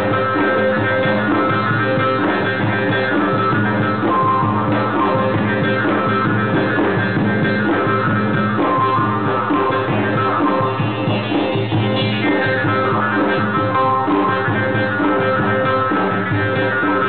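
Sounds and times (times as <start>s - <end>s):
frame drums in fast rhythm: 0.0s - 17.0s
held instrument tones: 0.0s - 17.0s.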